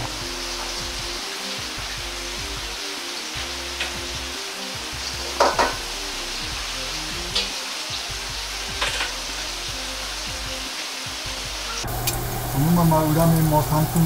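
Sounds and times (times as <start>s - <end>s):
oil popping: 0.0s - 10.7s, 11.3s - 14.0s
meat sizzling in oil: 0.0s - 14.0s.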